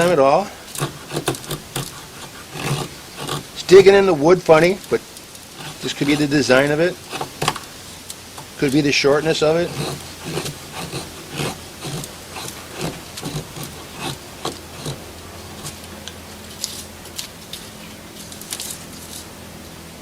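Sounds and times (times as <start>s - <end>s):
knife blade shaving wood: 0.0s - 7.8s, 8.4s - 19.3s.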